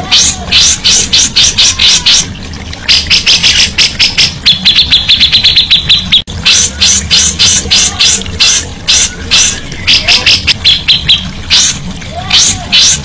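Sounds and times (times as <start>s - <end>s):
buzzy bird trill: 0.0s - 13.0s.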